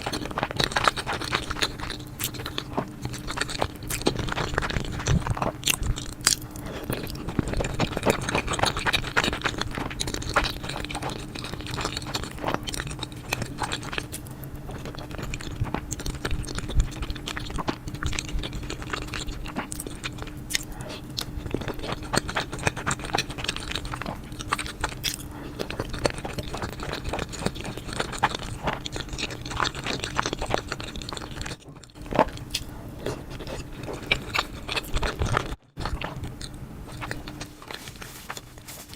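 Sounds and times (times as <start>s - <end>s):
chewing with crunchy bites: 0.0s - 38.9s
faint steady hum: 0.0s - 38.9s.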